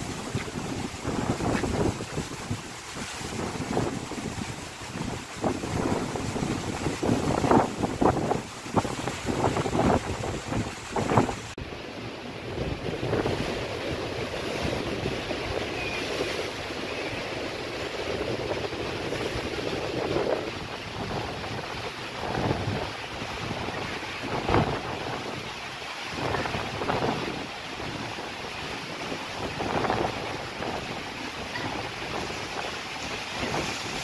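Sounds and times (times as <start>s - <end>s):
sea surf washing ashore: 0.0s - 34.0s
wind buffeting microphone: 0.0s - 34.0s.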